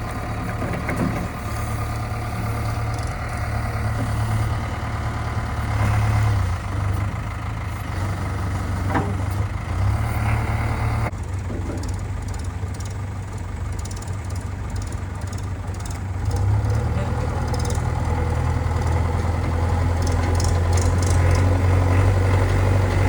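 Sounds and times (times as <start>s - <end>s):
heavy diesel engine rumbling: 0.0s - 23.0s.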